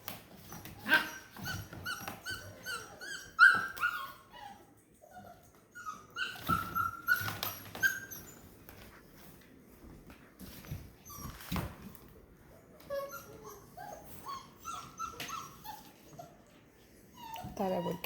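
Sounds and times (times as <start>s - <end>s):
puppies whining and yipping: 0.0s - 9.3s, 10.4s - 18.0s.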